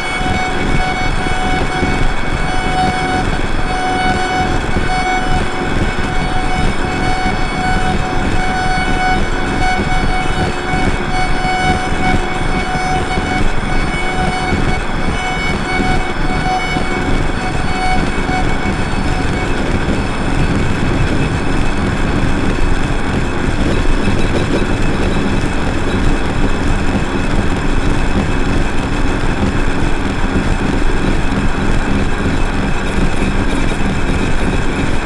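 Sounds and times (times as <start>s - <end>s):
rumbling wall of noise: 0.0s - 35.0s
sustained steady tones: 0.0s - 35.0s.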